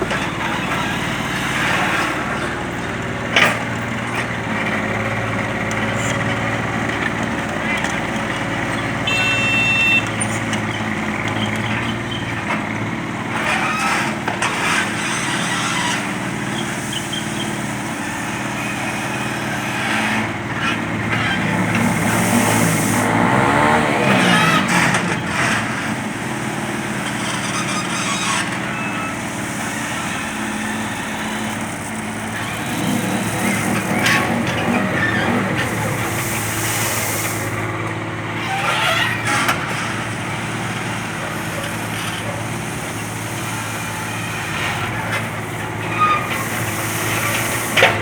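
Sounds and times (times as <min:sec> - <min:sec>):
excavator engine running: 0:00.0 - 0:48.0.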